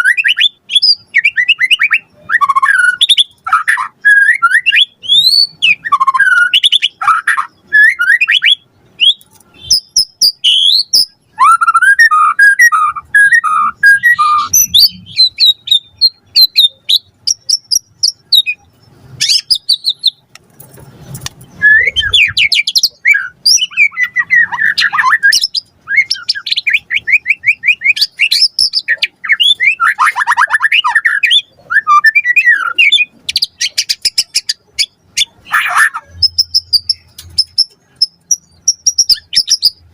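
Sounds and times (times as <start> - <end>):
bird singing whistled song: 0.0 - 20.2, 21.5 - 39.9.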